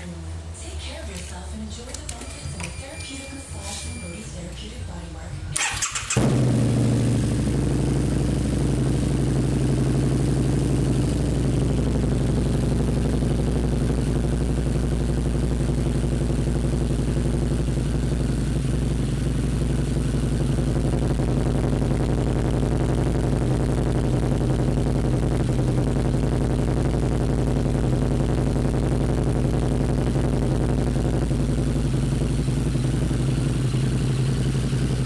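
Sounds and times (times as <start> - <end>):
motorcycle engine idling: 5.6 - 35.0.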